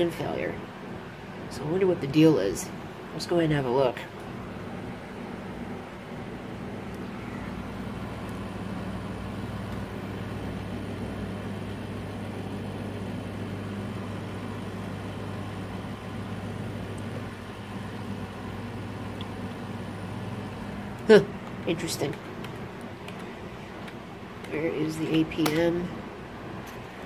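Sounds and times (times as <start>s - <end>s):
computer fans whirring: 0.0s - 27.0s.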